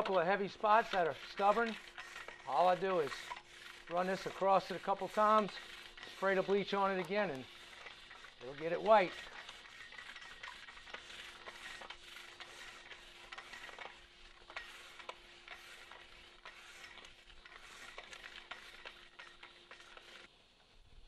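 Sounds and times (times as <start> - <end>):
wire brush scrubbing brick: 0.0 - 21.0.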